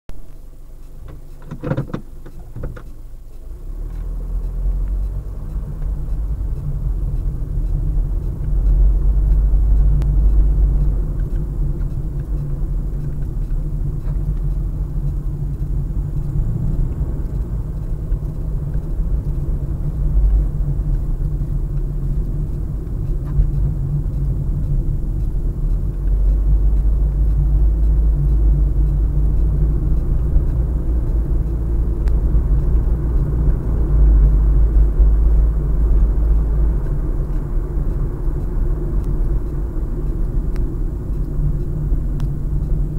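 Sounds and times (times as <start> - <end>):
car road and engine rumble: 0.1 - 42.9.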